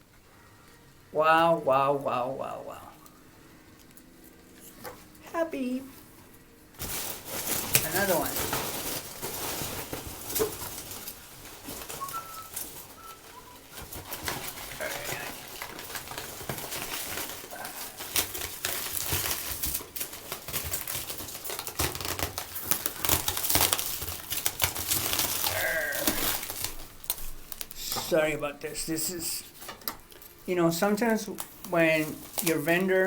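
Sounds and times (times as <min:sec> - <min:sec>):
packing wrap crinkling: 0:03.1 - 0:33.0.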